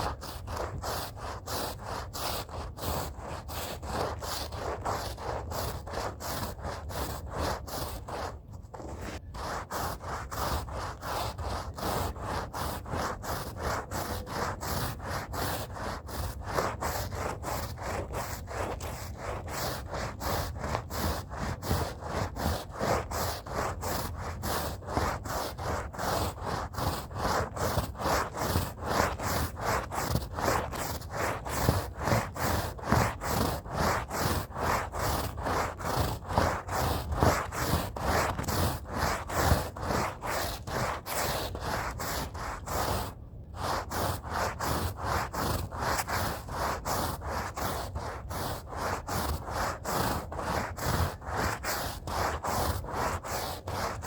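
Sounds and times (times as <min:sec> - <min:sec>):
stiff brush scrubbing a rug: 0:00.0 - 0:54.0.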